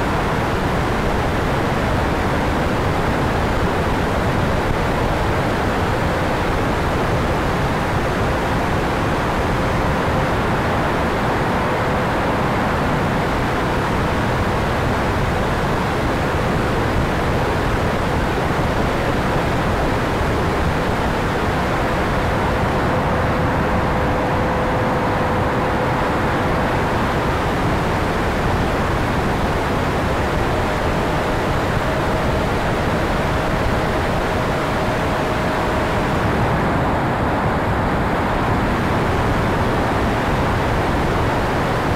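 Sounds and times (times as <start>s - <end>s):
ducted fan jet rushing: 0.0s - 41.9s.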